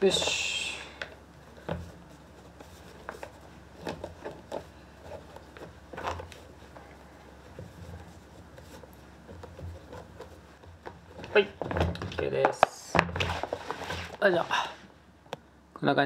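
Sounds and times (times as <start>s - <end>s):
shoelaces rustling and rubbing: 0.0s - 15.0s.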